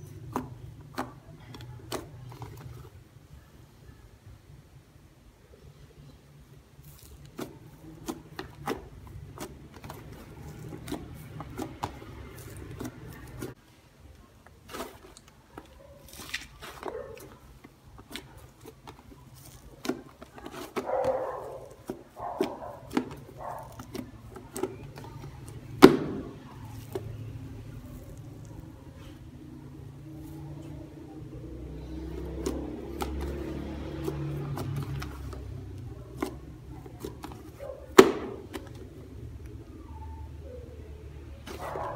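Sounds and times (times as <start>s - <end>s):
slime squishing: 0.0s - 3.2s, 6.5s - 41.9s.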